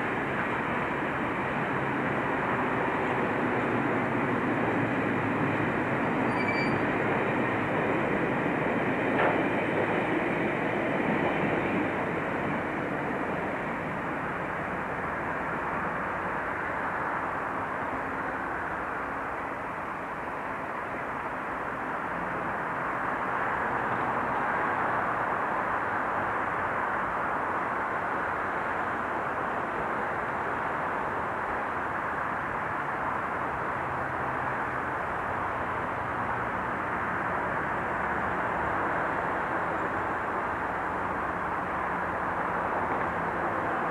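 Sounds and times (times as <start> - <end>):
low diesel locomotive hum: 0.0 - 43.9
train wheels rumbling on rails: 0.0 - 43.9.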